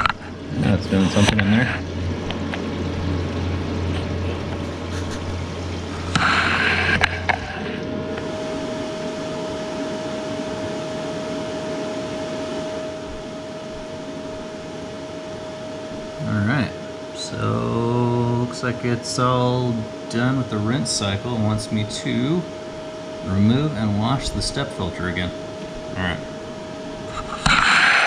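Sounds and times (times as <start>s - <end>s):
water flowing through pump: 0.0s - 26.4s
pump humming: 0.0s - 28.0s
steady thin tone: 0.0s - 28.0s.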